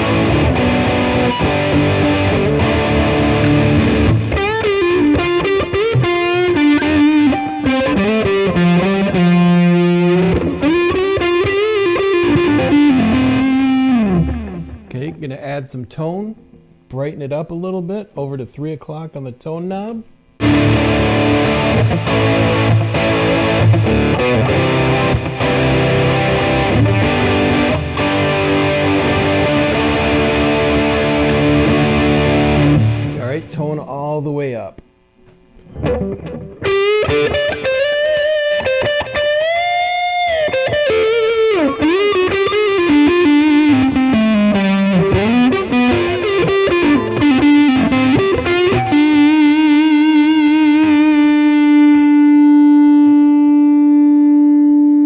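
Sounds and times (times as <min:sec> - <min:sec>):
distorted electric guitar: 0:00.0 - 0:15.4, 0:20.3 - 0:34.0, 0:34.6 - 0:55.0.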